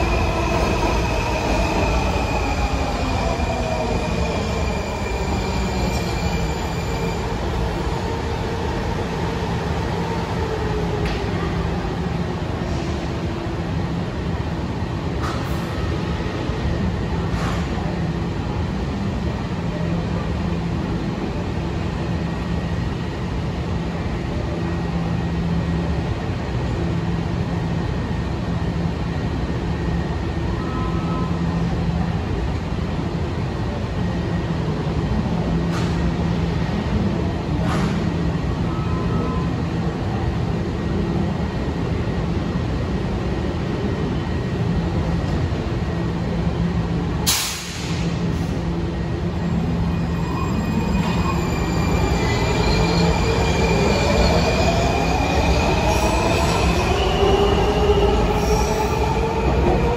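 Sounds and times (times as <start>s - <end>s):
underground train rumbling: 0.0s - 59.9s.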